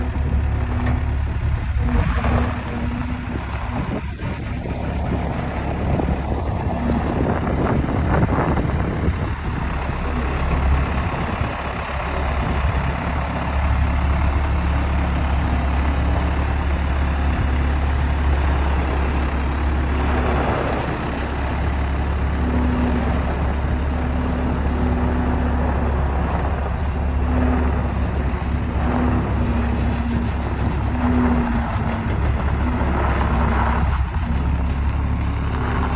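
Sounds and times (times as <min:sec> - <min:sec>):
loader engine running: 0:00.0 - 0:35.9.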